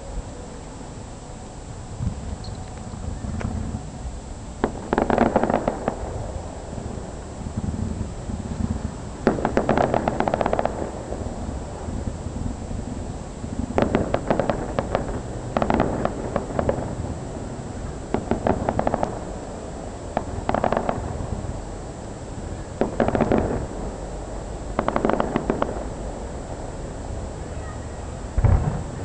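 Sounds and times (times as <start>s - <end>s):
fireworks crackling pops: 2.0s - 29.0s.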